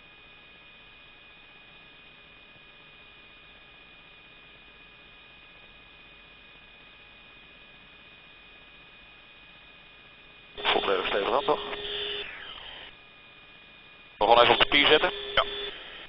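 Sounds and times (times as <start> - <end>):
electrical hum: 0.0 - 16.0
thin high-pitched whine: 0.0 - 16.0.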